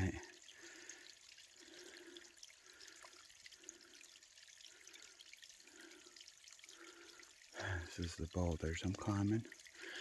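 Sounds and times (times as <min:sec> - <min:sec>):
rainwater trickling down rocks: 0:00.0 - 0:10.0.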